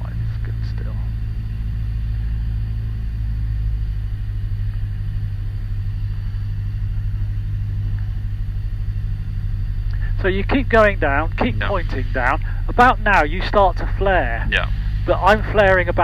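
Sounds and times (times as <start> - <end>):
aircraft engine and propeller droning: 0.0 - 16.0.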